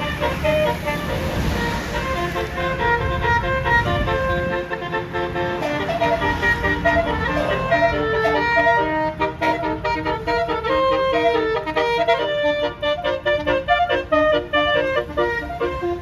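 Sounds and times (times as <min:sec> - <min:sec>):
bus musical horn melody: 0:00.0 - 0:16.0.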